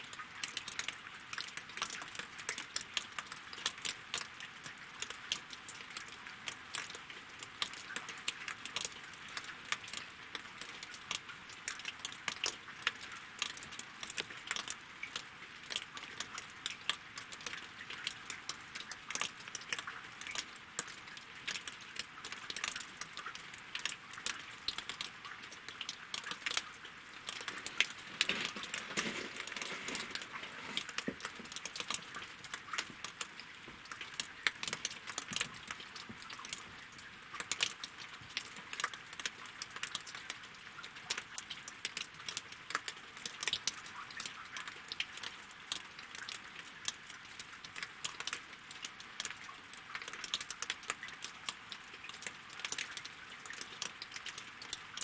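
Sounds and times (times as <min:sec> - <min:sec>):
rain drops tapping on logs: 0:00.0 - 0:55.0
soft hiss of rain: 0:00.0 - 0:55.0.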